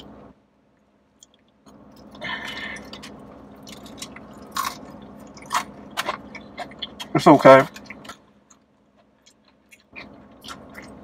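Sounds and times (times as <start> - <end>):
person chewing crunchy food: 1.2 - 11.0.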